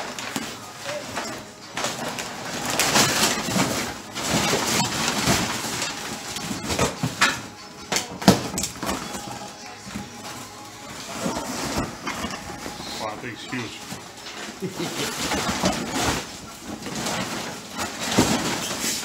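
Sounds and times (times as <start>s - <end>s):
packaging rustling and crinkling: 0.0s - 19.0s.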